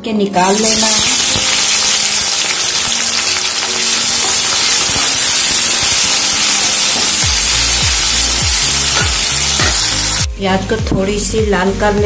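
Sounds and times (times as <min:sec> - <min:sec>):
onions sizzling in hot oil: 0:00.4 - 0:10.3.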